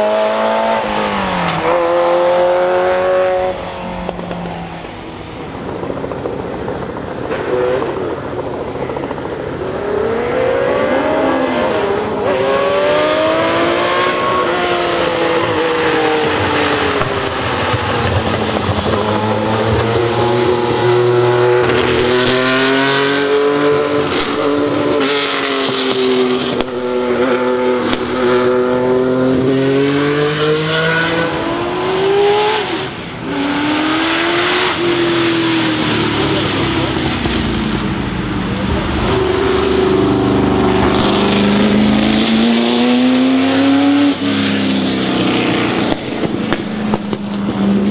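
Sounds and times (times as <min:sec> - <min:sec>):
second race car engine revving: 0:00.0 - 0:04.4, 0:09.8 - 0:47.9
race car engine accelerating: 0:00.0 - 0:05.0, 0:05.8 - 0:47.9.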